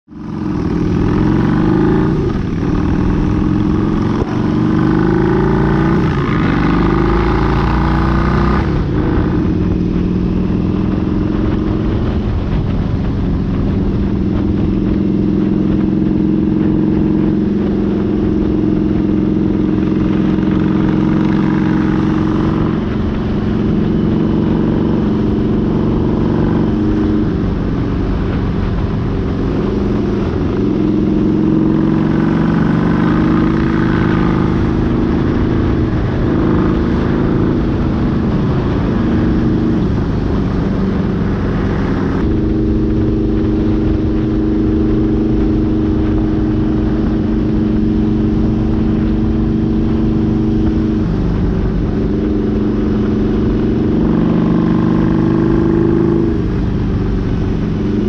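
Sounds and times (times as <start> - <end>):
motorcycle engine accelerating: 0.0 - 58.0
wind noise: 0.1 - 58.0.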